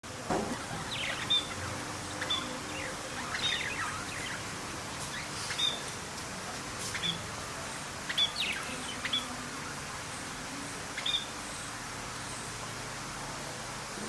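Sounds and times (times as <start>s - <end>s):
steady background hiss: 0.0s - 14.0s
birds chirping: 0.3s - 12.7s.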